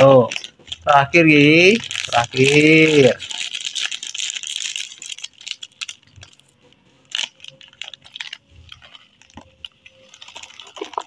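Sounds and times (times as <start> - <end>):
corn puffs rustling into box: 0.0 - 11.0
foil packet crinkling: 0.0 - 11.0.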